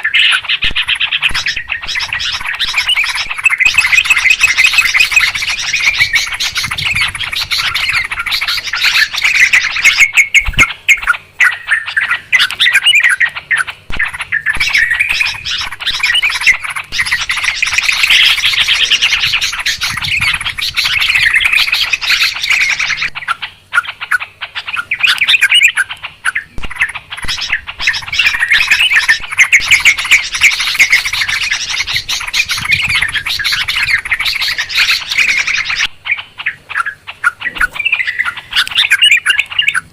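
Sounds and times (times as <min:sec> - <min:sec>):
bulbuls chattering and calling: 0:00.0 - 0:39.9.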